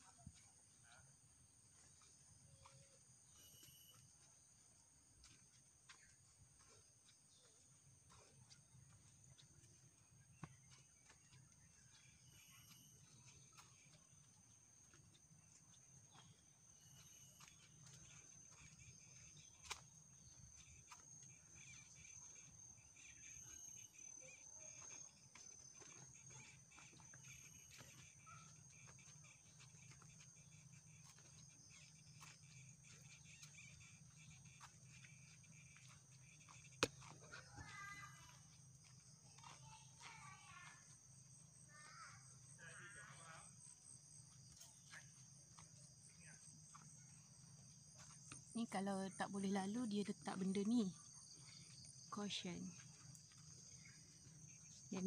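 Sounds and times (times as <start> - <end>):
footsteps on dirt trail: 1.6 - 41.5, 44.2 - 49.5, 50.1 - 55.0
high-pitched insect drone: 1.7 - 48.6.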